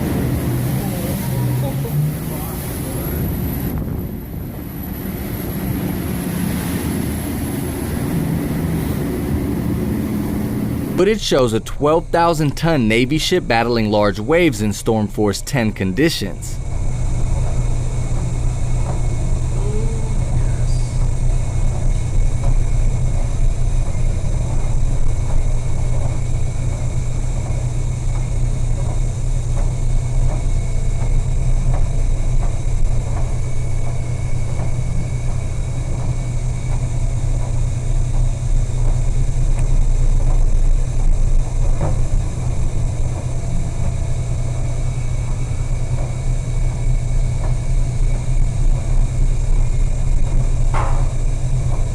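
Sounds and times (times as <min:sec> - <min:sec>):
faint high whine: 0:00.0 - 0:51.9
ship engines droning: 0:00.0 - 0:51.9.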